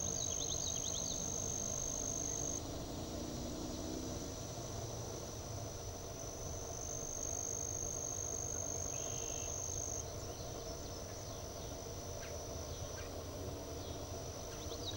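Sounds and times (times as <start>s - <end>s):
high-pitched insect song: 0.0s - 14.9s.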